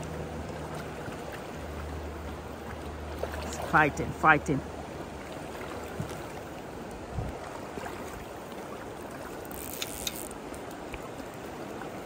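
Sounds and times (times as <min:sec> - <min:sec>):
river running over stones: 0:00.0 - 0:12.0.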